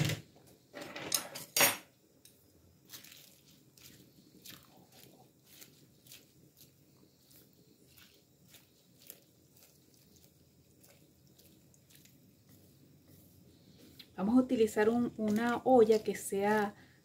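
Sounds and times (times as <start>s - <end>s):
water boiling: 2.0s - 17.0s.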